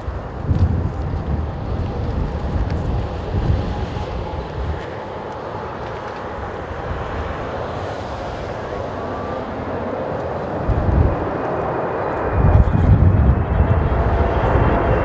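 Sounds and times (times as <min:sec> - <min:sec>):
jet engines rushing: 0:00.0 - 0:15.0
wind buffeting microphone: 0:00.0 - 0:15.0.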